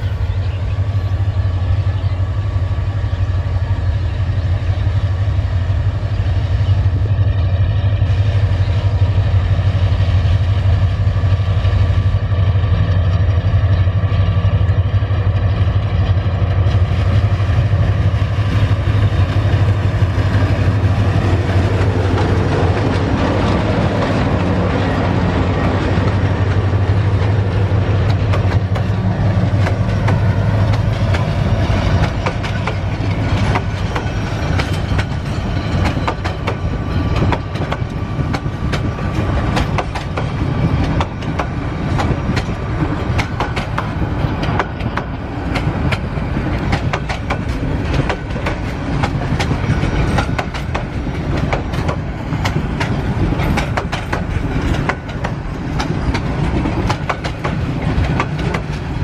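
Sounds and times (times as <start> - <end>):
diesel locomotive engine drone: 0.0 - 59.0
train wheels rumbling on rails: 0.0 - 59.0.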